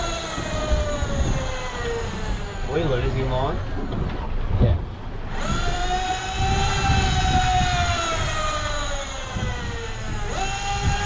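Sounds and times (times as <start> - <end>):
fishing reel motor whine: 0.0 - 4.2, 5.1 - 11.0.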